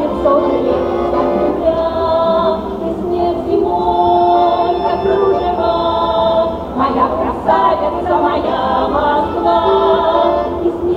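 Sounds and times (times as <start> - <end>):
women's choir singing: 0.0 - 10.9.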